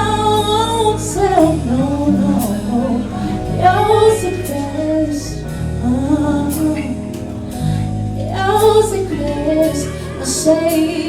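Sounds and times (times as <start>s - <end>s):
low musical accompaniment: 0.0s - 11.0s
woman singing wordless melody: 0.0s - 11.0s.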